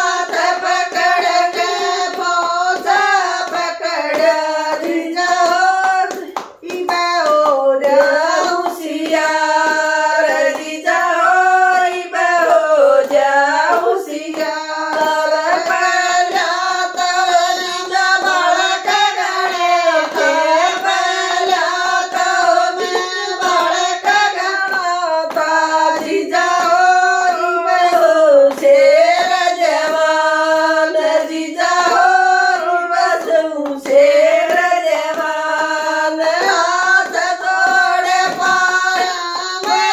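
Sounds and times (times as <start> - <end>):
steady hand claps: 0.0 - 39.9
women singing folk song: 0.0 - 39.9.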